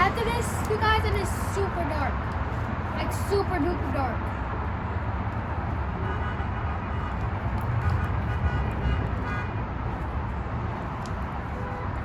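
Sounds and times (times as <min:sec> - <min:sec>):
low rumble of vehicle traffic: 0:00.0 - 0:12.0.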